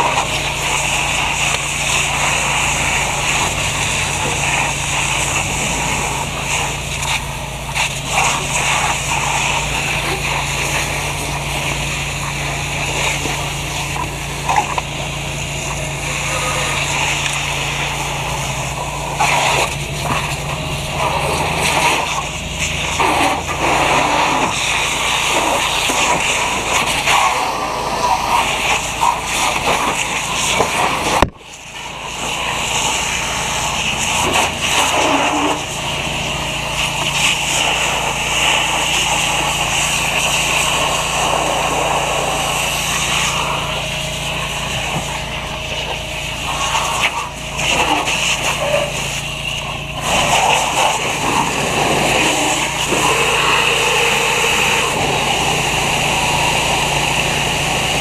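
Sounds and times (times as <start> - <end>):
engine running: 0.0 - 58.0
fire hose spraying water: 0.0 - 58.0.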